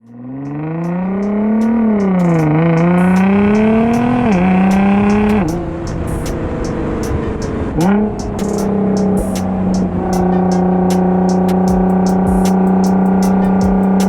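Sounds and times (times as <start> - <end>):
car engine accelerating through gears: 0.1 - 14.0.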